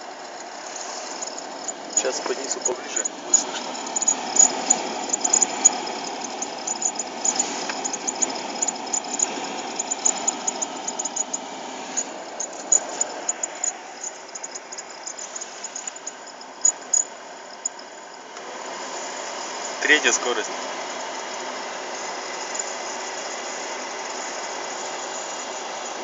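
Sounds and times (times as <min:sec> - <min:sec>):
heater blower fan: 0:00.0 - 0:26.0
high-pitched fan squeaks: 0:00.0 - 0:26.0.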